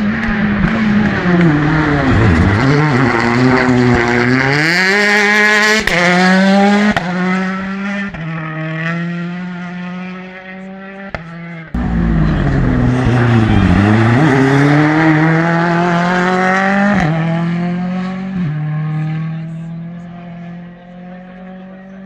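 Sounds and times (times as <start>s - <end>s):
rally car engines at full throttle: 0.0s - 22.0s.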